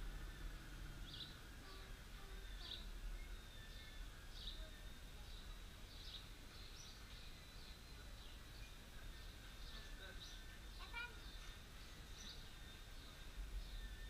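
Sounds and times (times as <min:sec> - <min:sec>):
low street rumble: 0:00.0 - 0:14.0
small bird chirping: 0:00.0 - 0:14.0.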